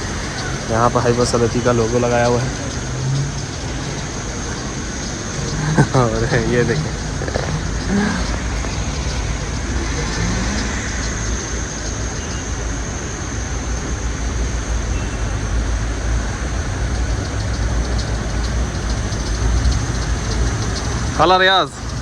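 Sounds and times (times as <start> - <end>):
high hiss: 0.0 - 22.0
vehicle engine idling: 0.0 - 22.0.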